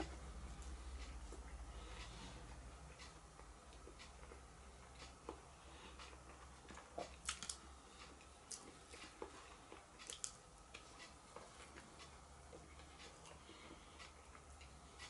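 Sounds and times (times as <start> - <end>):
person chewing: 2.9 - 15.0.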